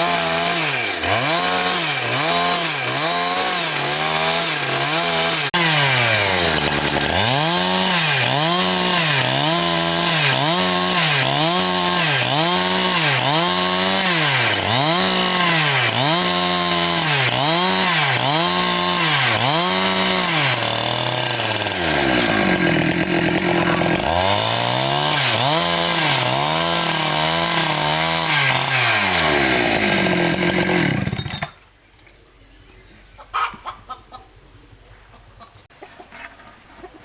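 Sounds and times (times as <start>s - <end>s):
chainsaw engine running: 0.0s - 31.6s.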